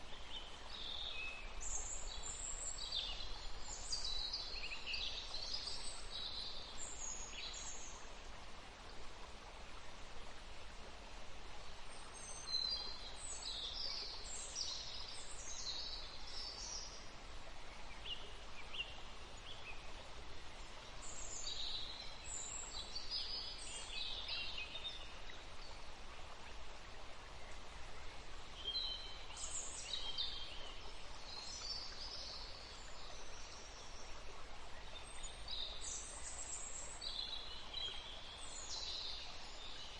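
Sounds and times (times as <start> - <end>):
outdoor background hiss: 0.0 - 39.9
songbirds chirping: 0.0 - 39.9.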